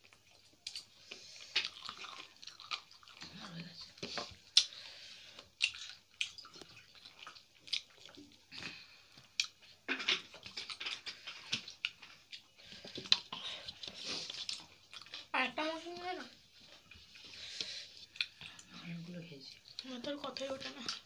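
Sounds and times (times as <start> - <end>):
fingers mixing food on plates: 0.0 - 21.0
people chewing food: 0.0 - 21.0.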